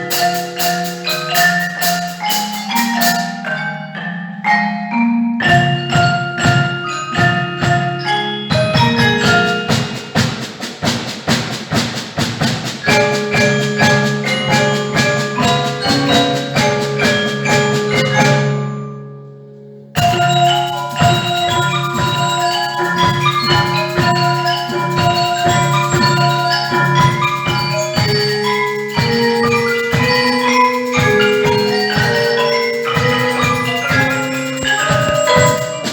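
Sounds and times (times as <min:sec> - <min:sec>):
mallet percussion ensemble playing: 0:00.0 - 0:35.9.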